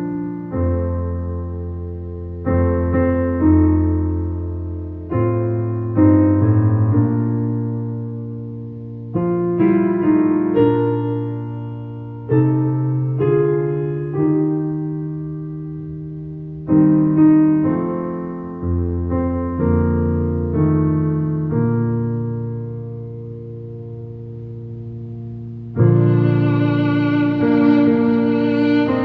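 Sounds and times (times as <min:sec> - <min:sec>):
slow soft solo piano: 0:00.0 - 0:29.0.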